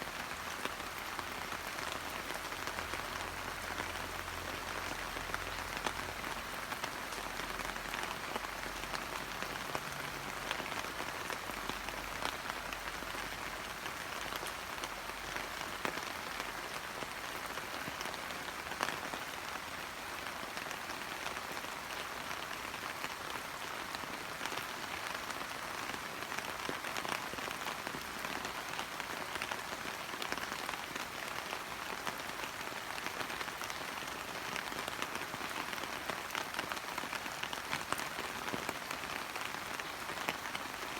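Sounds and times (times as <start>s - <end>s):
rain pattering on leaves: 0.0s - 40.9s.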